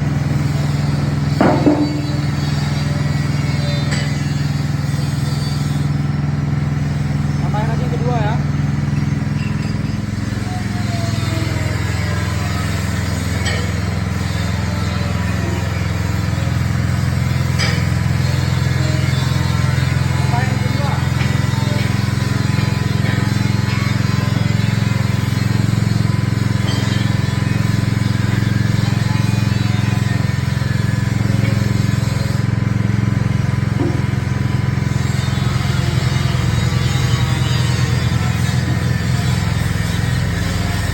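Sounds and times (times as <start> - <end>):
small petrol engine running: 0.0 - 40.9.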